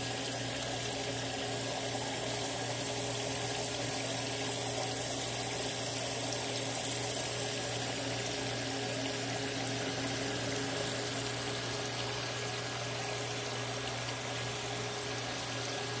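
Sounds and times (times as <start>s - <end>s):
aquarium pump hum: 0.0s - 16.0s.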